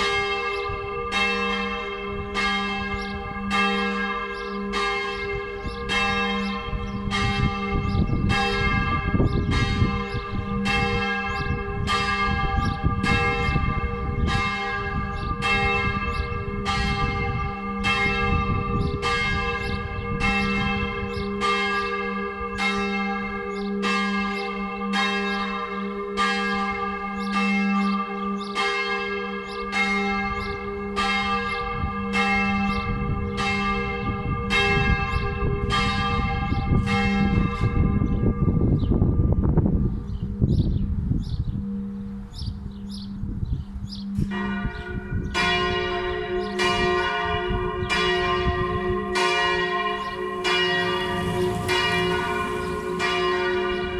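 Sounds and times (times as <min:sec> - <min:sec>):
church bells ringing: 0:00.0 - 0:53.9
deep hum of large bell: 0:00.0 - 0:53.9.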